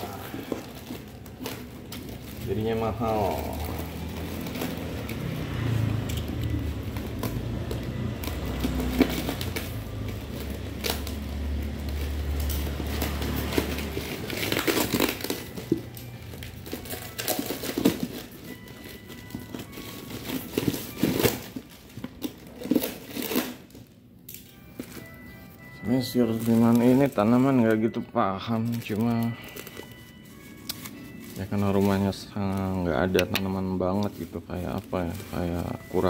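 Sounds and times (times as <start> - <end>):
packaging crinkling: 0.0 - 36.0.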